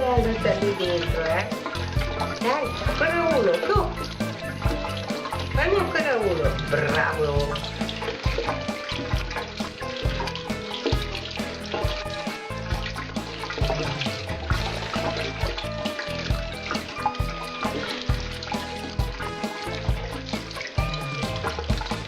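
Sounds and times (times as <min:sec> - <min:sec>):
music with steady beat: 0:00.0 - 0:22.0
tap water running into sink: 0:00.0 - 0:22.0.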